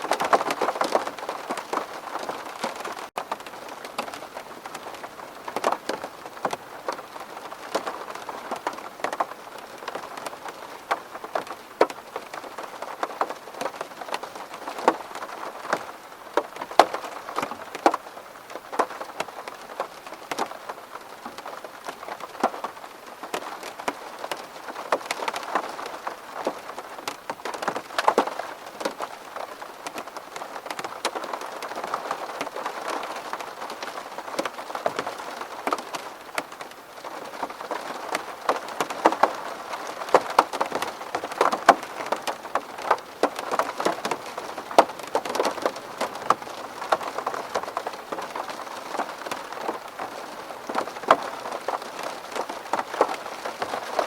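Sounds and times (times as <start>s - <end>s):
rain hitting a window: 0.0s - 54.0s.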